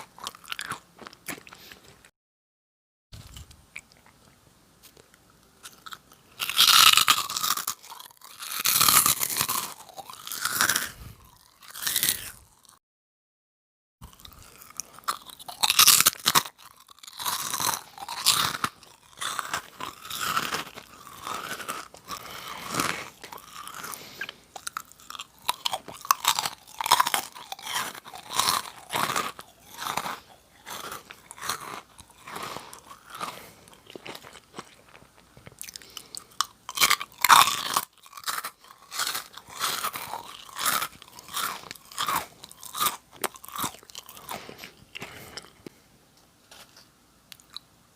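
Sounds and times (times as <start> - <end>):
crunchy snack chewing: 0.0 - 2.1, 3.2 - 12.8, 14.0 - 45.8, 46.5 - 47.7.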